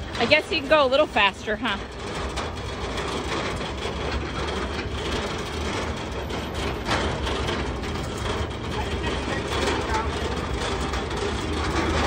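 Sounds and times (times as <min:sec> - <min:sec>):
grill cart rattling over asphalt: 0:00.0 - 0:12.0
truck engine running low: 0:00.0 - 0:12.0.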